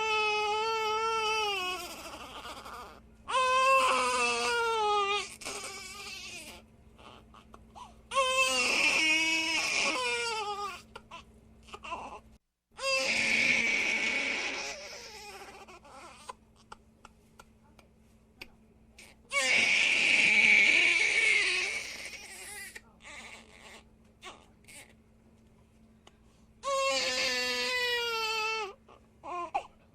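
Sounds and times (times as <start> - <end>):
baby crying: 0.0 - 12.2, 12.8 - 16.8, 19.3 - 24.9, 26.6 - 29.7
baby whimpering: 0.0 - 16.8, 19.0 - 24.9, 26.6 - 29.8.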